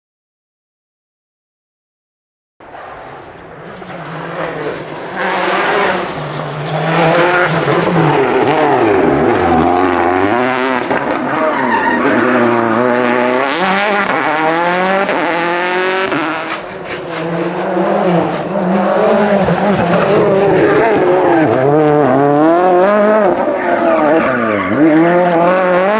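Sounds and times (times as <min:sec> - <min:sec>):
rally car engine revving: 0:02.8 - 0:25.9.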